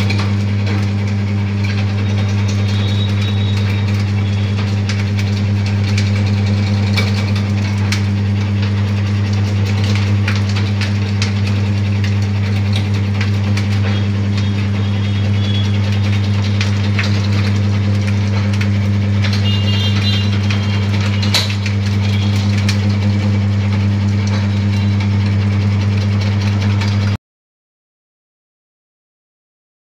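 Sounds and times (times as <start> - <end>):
cutting machine humming: 0.0 - 27.2.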